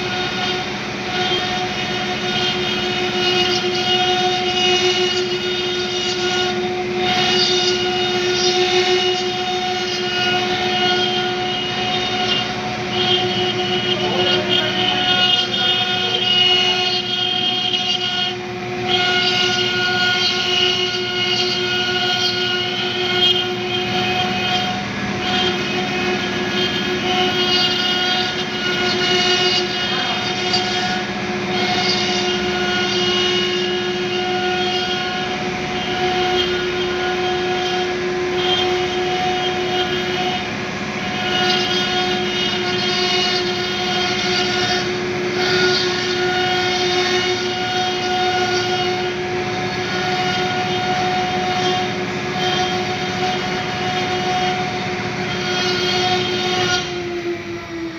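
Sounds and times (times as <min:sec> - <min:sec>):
spindle high whine: 0:00.0 - 0:57.9.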